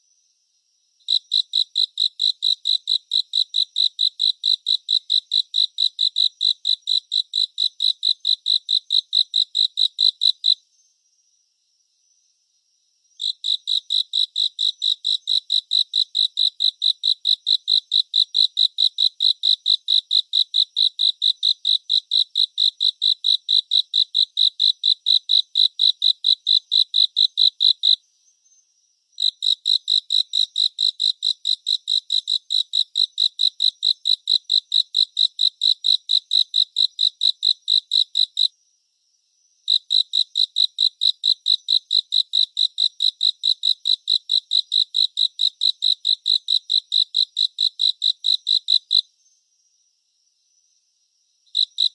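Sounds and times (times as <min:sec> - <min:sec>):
cricket chirping: 0:00.0 - 0:51.9.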